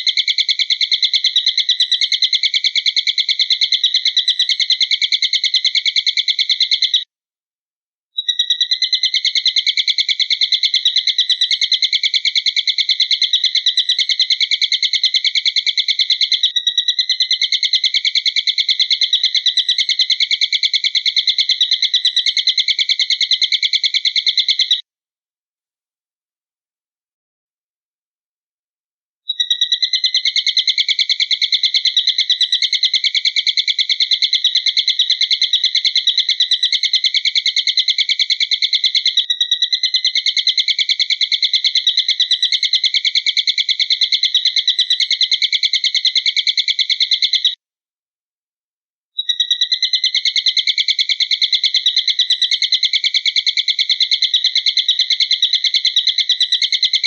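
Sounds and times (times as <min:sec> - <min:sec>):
high-pitched bird trill: 0:00.0 - 0:07.1, 0:08.2 - 0:24.8, 0:29.3 - 0:47.6, 0:49.2 - 0:57.0.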